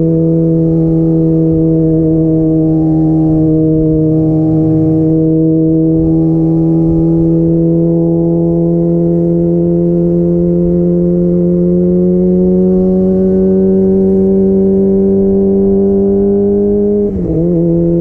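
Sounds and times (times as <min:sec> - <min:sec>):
motorcycle engine running hard: 0:00.0 - 0:18.0
wind rumble on camera: 0:00.0 - 0:18.0.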